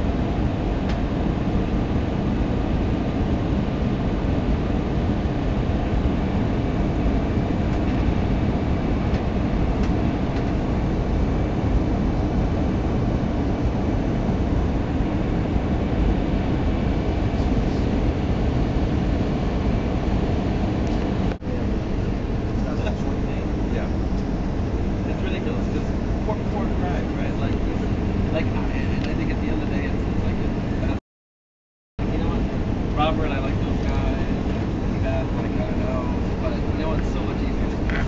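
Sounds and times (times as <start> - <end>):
airliner cabin engine noise: 0.0 - 31.0, 32.0 - 38.0
faint high whine: 0.0 - 31.0, 32.0 - 38.0.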